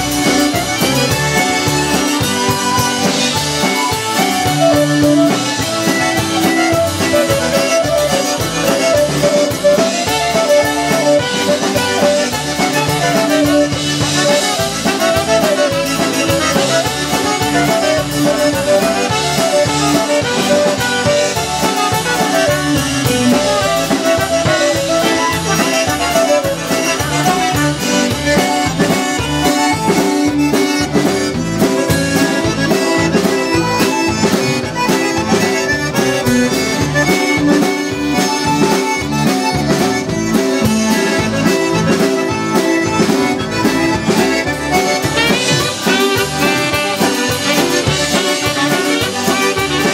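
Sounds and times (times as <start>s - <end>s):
accordion melody: 0.0s - 49.9s
bass guitar: 0.0s - 49.9s
steady drum beat: 0.0s - 49.9s.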